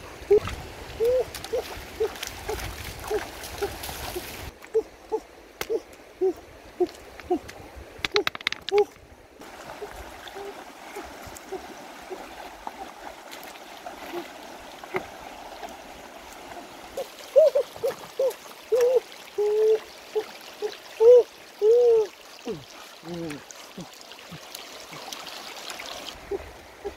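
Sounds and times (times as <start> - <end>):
stream flowing over rocks: 0.0 - 4.7, 5.3 - 26.9.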